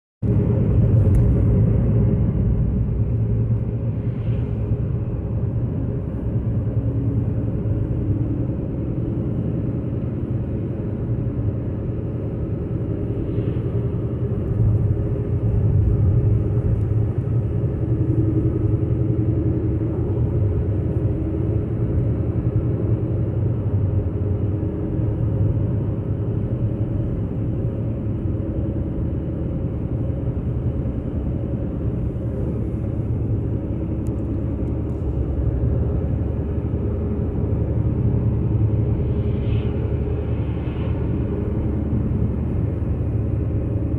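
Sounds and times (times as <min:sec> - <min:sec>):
car engine and road noise: 0:00.2 - 0:43.9.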